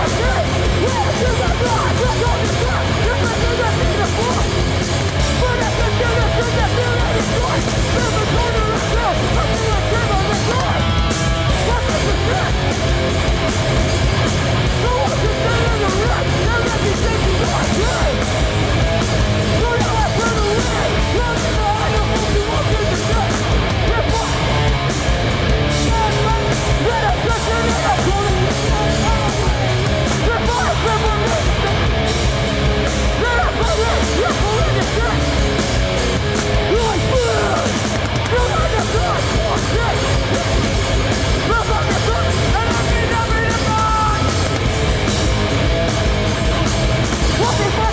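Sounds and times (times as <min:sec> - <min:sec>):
distorted guitars: 0:00.0 - 0:47.9
drums: 0:00.0 - 0:47.9
punk band playing live: 0:00.0 - 0:47.9.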